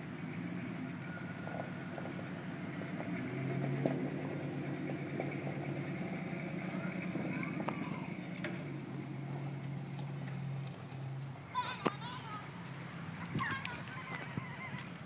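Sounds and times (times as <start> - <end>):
pickup truck engine rumble: 0.0 - 15.0.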